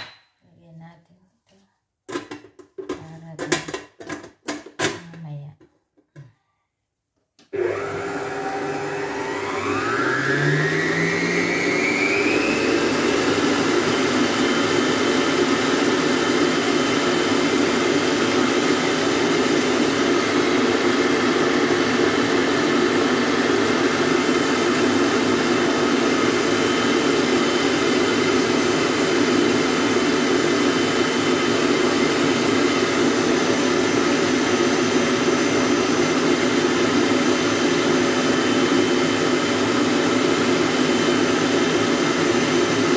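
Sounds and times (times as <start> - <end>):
stand mixer motor whine: 7.5 - 42.9.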